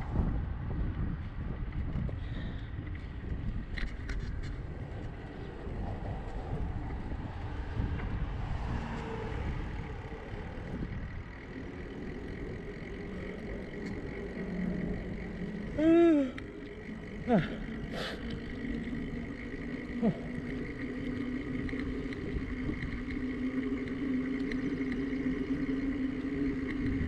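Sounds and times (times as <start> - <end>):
wind and road noise: 0.0 - 27.0.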